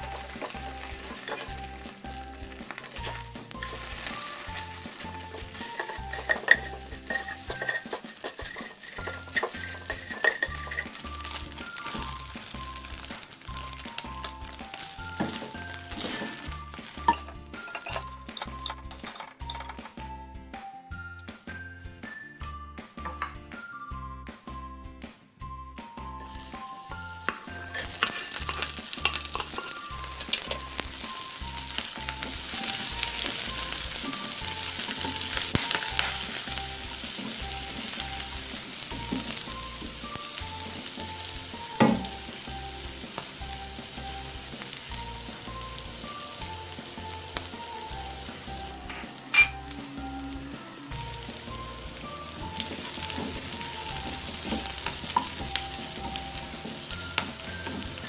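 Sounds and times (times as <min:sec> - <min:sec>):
aromatics sizzling in hot oil: 0:00.0 - 0:20.1, 0:26.1 - 0:58.0.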